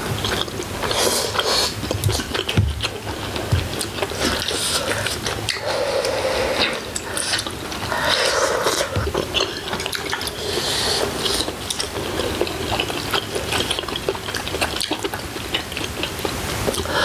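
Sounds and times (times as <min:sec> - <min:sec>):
chewing: 0:00.1 - 0:17.0
slurping broth and noodles: 0:00.3 - 0:14.6.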